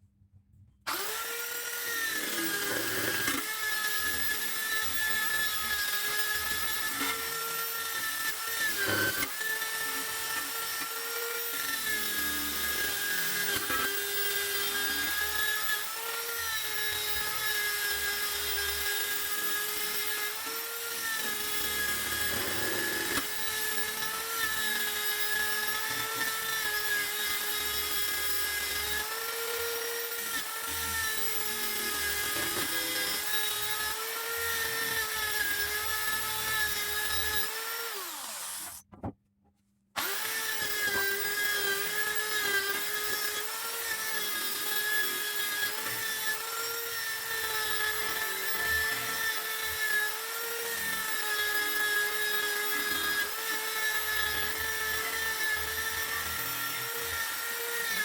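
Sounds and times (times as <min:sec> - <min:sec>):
power tool whining on metal: 0:00.9 - 0:39.1, 0:40.0 - 0:58.0.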